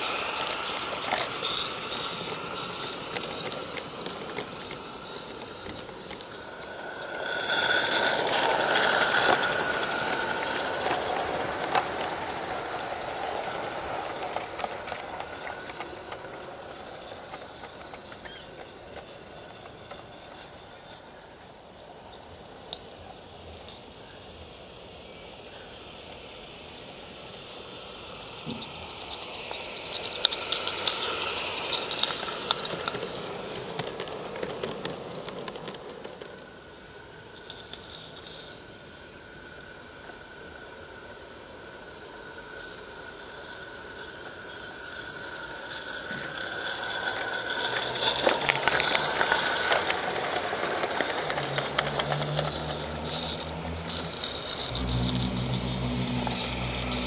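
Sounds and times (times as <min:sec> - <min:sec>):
rattle of train wheels: 0:00.0 - 0:57.0
steam hiss: 0:00.0 - 0:57.0.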